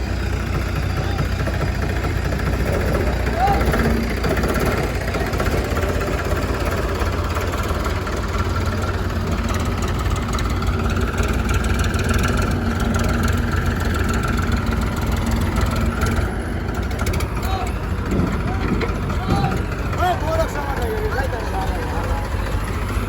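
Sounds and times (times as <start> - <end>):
diesel engines idling: 0.0 - 23.0.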